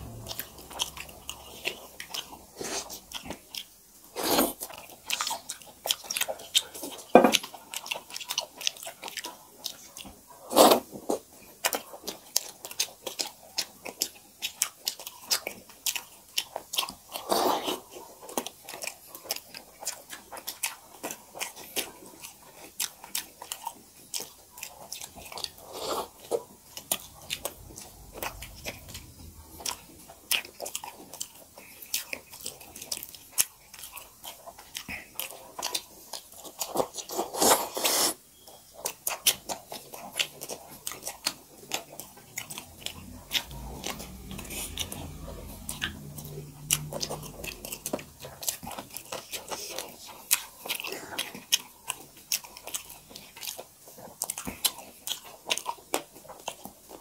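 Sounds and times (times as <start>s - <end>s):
people chewing and lip-smacking: 0.0s - 57.0s.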